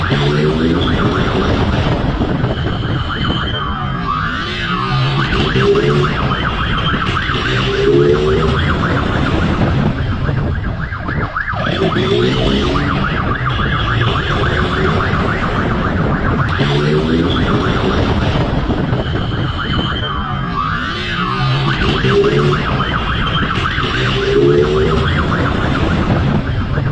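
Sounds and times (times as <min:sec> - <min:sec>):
police siren yelping: 0:00.0 - 0:26.9.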